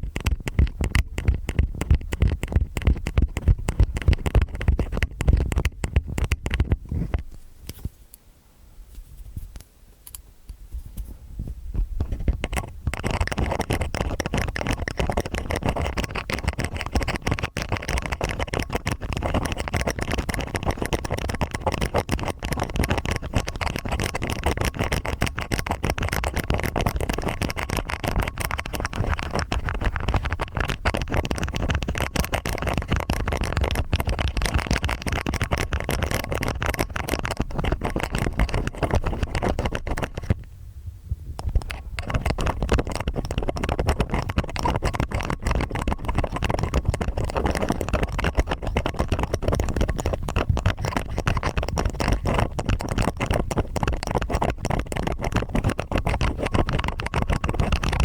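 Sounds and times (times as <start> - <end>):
ear picks scraping in microphone: 0.0 - 8.1, 10.5 - 58.0.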